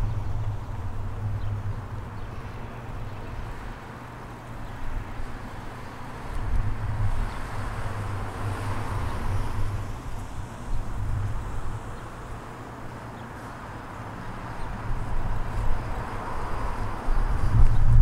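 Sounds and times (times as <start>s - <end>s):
wind buffeting microphone: 0.0s - 12.9s, 14.3s - 18.0s.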